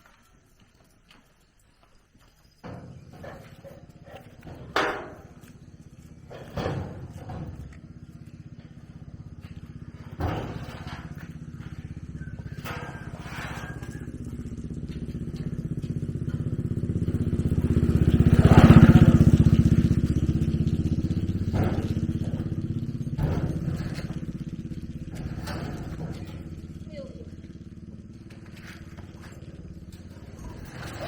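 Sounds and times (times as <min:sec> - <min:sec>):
motorbike engine running: 0:02.4 - 0:31.0.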